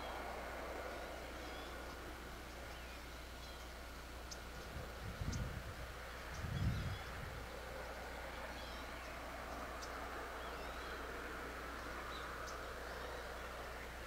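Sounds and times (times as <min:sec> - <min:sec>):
low hum: 0:00.0 - 0:14.0
steady hiss: 0:00.0 - 0:14.0.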